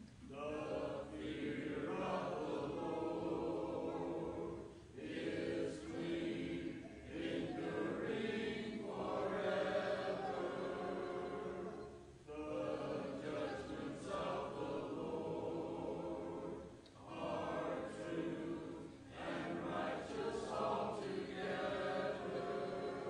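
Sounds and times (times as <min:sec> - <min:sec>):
congregation singing a hymn: 0:00.0 - 0:23.0.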